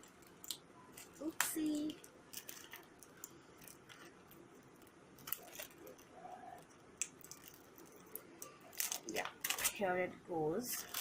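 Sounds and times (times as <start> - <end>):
packet clicks and rustling: 0.0 - 9.8, 10.6 - 11.0.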